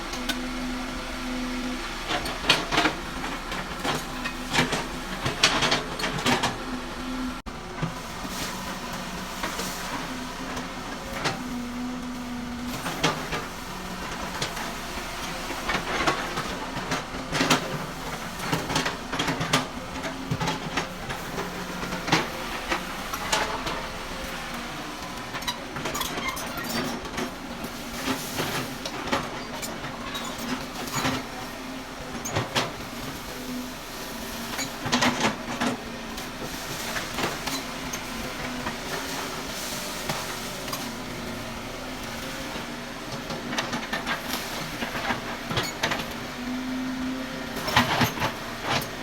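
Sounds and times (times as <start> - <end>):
excavator engine running: 0.0 - 49.0.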